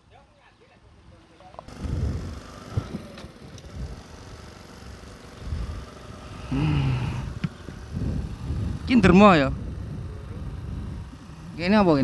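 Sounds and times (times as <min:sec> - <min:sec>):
wind buffeting microphone: 0:01.0 - 0:12.0
motorcycle engine running: 0:01.2 - 0:12.0.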